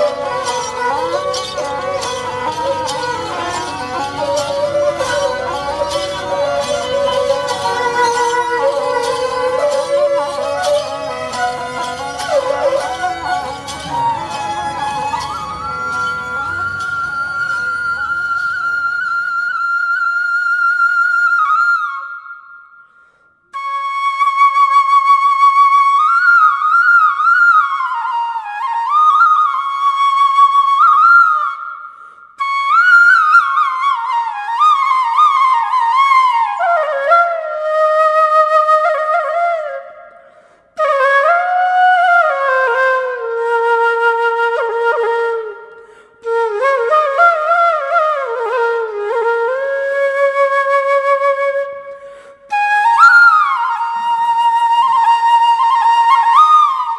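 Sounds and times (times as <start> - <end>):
solo flute melody: 0.0 - 56.9.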